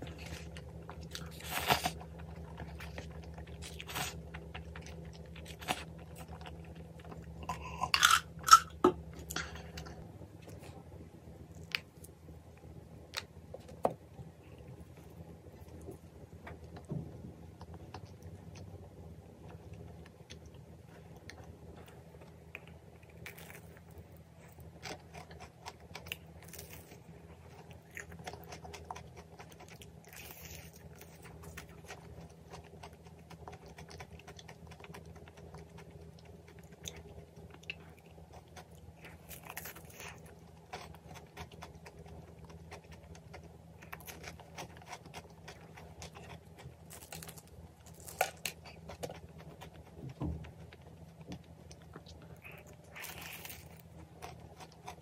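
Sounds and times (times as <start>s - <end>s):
crunchy pastry chewing: 0.0s - 55.0s
low steady hum: 0.0s - 55.0s.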